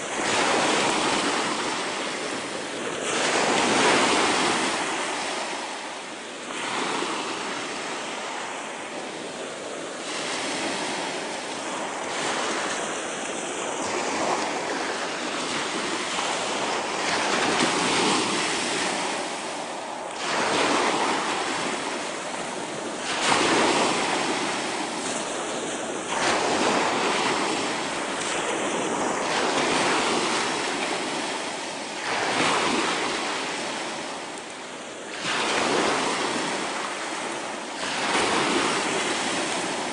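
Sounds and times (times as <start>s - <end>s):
waves breaking on shingle beach: 0.0s - 39.9s.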